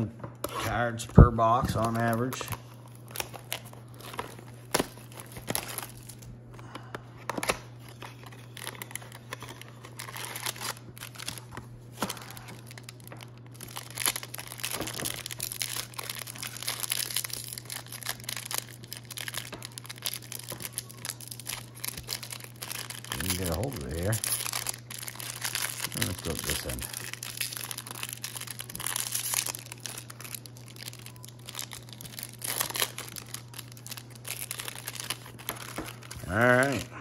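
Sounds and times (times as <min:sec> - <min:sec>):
foil wrapper crinkling: 0:00.4 - 0:36.9.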